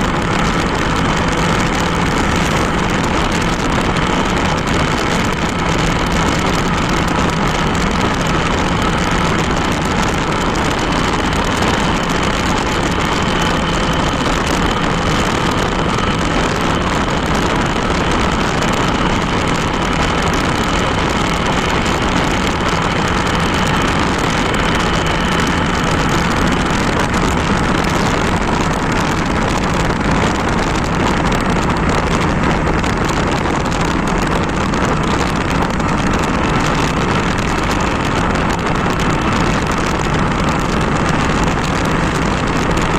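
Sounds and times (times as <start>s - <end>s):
motorcycle engine running: 0.0s - 42.9s
wind noise: 0.0s - 42.9s.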